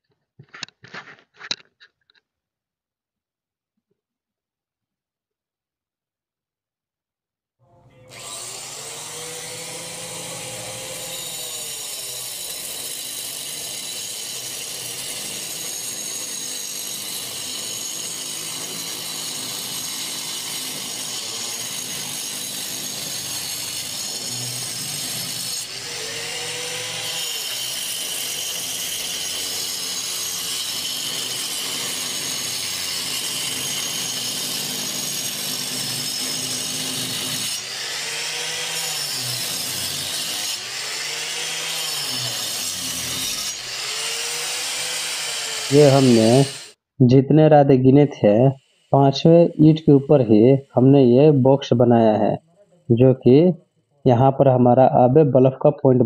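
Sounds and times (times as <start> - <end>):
angle grinder cutting brick: 7.6 - 55.2.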